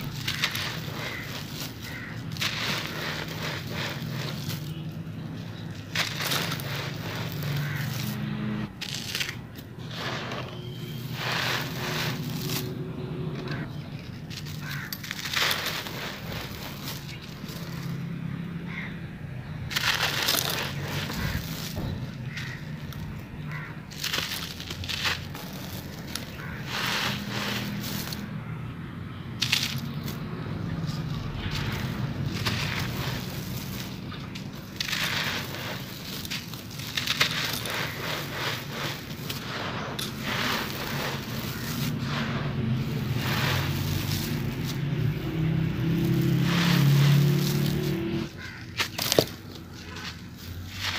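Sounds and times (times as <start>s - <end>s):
gritty crunching of cement: 0.0s - 50.9s.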